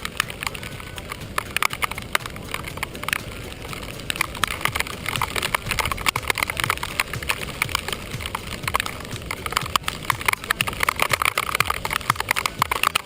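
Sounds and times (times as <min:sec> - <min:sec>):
raindrop taps: 0:00.0 - 0:13.0
steady hiss of rainfall: 0:00.0 - 0:13.0.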